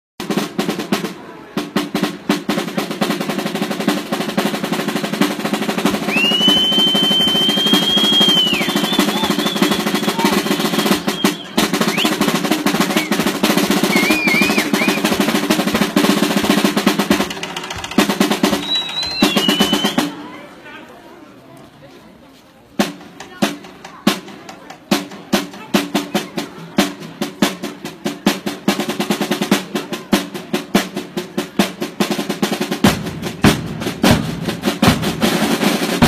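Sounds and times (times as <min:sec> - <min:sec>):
snare drum roll: 0:00.2 - 0:20.3, 0:22.8 - 0:36.0.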